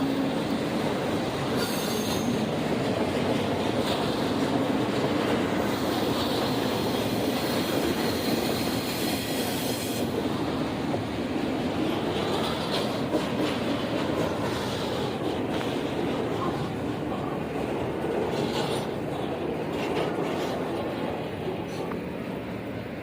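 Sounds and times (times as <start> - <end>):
rumble of train wheels on rail: 0.0 - 23.0.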